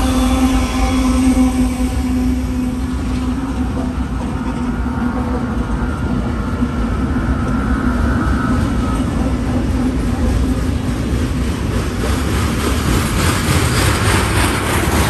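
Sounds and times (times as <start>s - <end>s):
diesel locomotives humming: 0.0s - 15.0s
freight train rolling: 0.0s - 15.0s.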